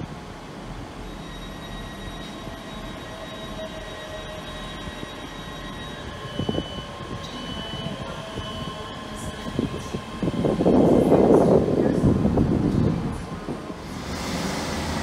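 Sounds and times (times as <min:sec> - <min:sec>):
high steady whine: 0:00.0 - 0:15.0
train rumbling past: 0:00.0 - 0:15.0.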